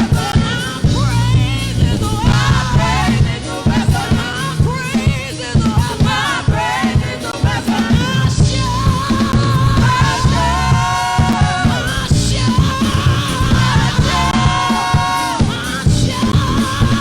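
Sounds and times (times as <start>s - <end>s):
gospel band with drums and bass: 0.0s - 17.0s
people singing: 0.0s - 17.0s.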